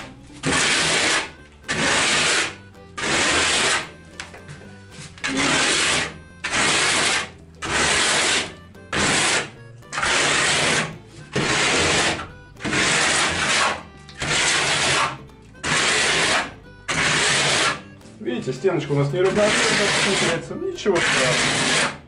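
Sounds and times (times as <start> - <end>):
plastering float scraping plaster: 0.0 - 22.0.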